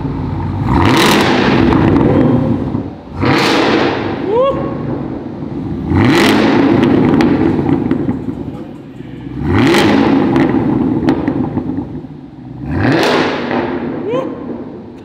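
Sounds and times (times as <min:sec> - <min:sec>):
car engine revving: 0:00.0 - 0:15.0
exhaust crackles: 0:00.0 - 0:15.0.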